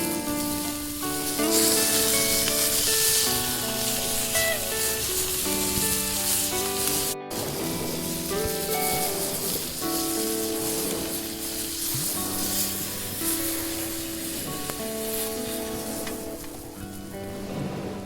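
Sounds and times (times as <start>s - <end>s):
steak sizzling in a frying pan: 0.0s - 17.5s
background music: 0.0s - 18.0s.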